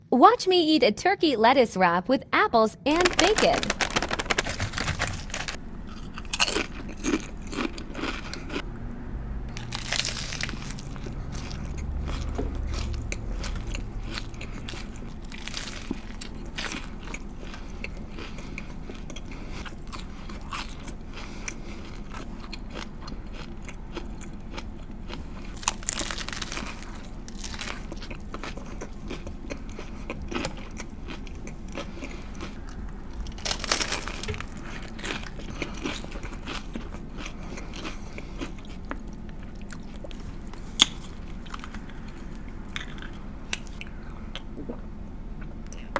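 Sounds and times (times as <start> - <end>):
crunching and chewing food: 2.9 - 8.8, 9.5 - 45.9.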